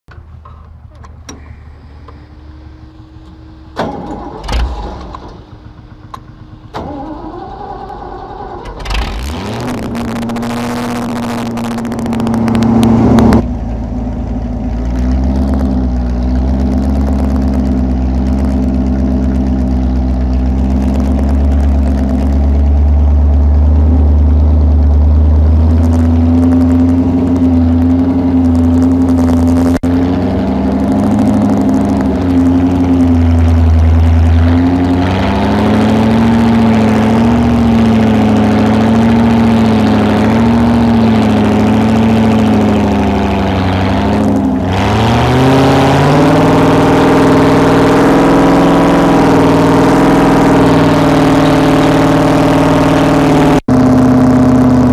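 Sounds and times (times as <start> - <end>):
tractor engine running and revving: 0.1 - 54.9.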